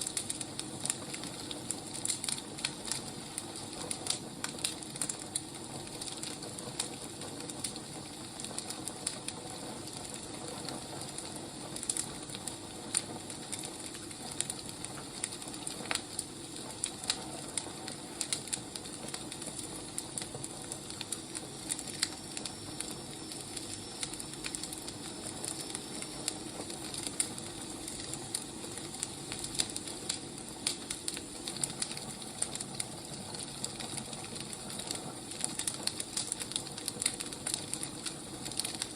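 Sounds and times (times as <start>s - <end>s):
firewood burning with crackles: 0.0s - 38.9s.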